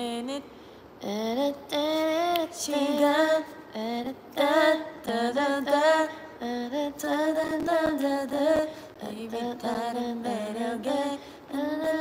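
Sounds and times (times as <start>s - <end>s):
woman singing a cappella: 0.0s - 12.0s.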